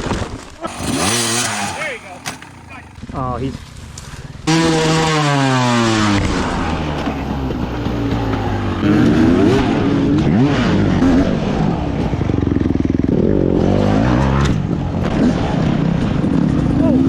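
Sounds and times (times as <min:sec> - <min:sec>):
dirt bike engine revving: 0:00.6 - 0:03.1, 0:04.4 - 0:17.0.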